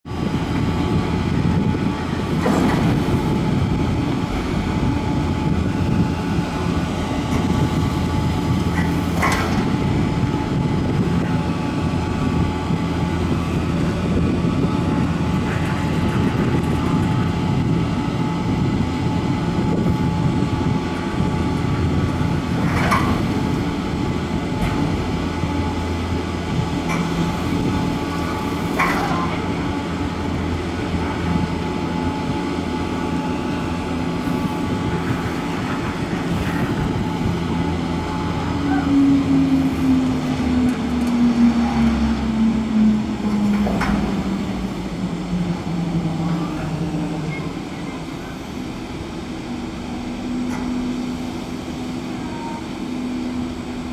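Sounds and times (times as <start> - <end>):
lift machinery hum and rumble: 0.0 - 53.9.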